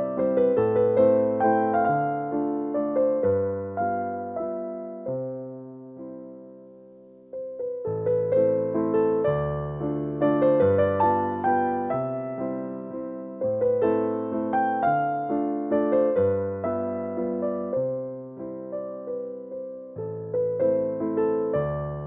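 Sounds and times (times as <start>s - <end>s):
gentle keyboard music: 0.0s - 22.0s.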